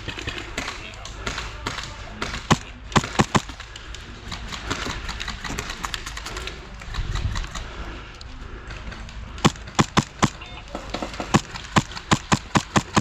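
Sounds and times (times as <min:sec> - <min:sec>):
airsoft gunfire ticks: 0:00.0 - 0:07.8, 0:08.7 - 0:13.0.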